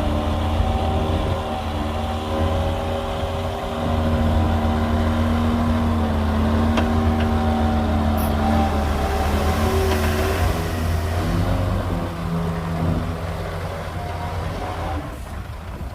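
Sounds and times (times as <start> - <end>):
bulldozer diesel engine under load: 0.0 - 15.9.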